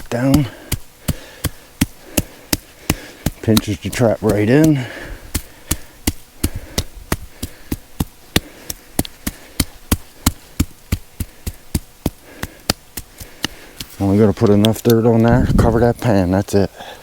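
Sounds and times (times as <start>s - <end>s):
hammer tapping dirt: 0.0s - 16.0s.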